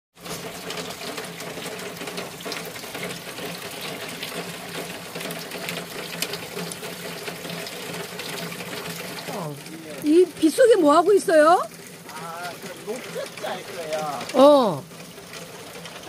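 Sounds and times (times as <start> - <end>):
heavy rain: 0.2 - 16.0.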